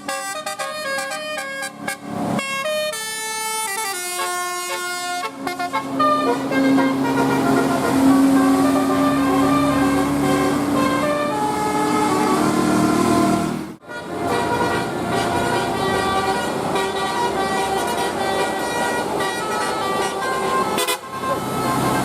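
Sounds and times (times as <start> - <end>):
musical bus horn tune: 0.0 - 22.0.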